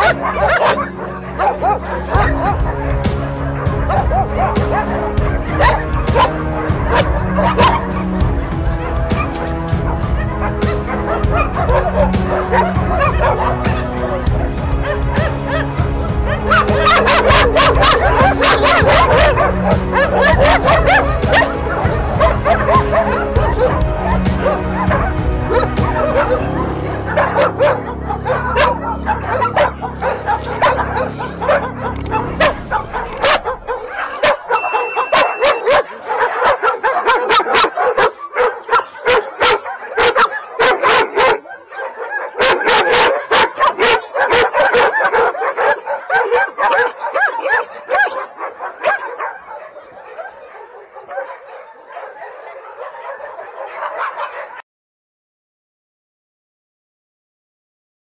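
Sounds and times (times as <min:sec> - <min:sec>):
background music: 0:00.0 - 0:54.6
dogs barking and yipping: 0:00.0 - 0:54.6.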